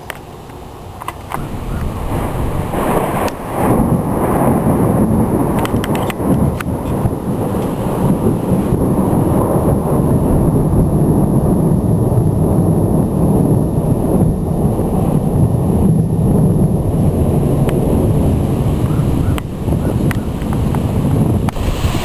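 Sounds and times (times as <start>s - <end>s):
rolling thunder rumble: 1.3s - 22.0s.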